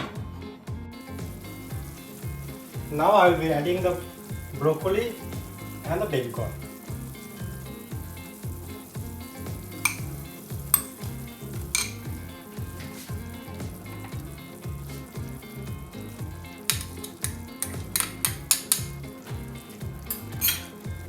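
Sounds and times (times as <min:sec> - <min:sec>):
soft background music with beat: 0:00.0 - 0:21.0
stock bubbling in a pot: 0:01.0 - 0:21.0
utensil clinking against pot: 0:01.5 - 0:14.3, 0:16.6 - 0:20.9.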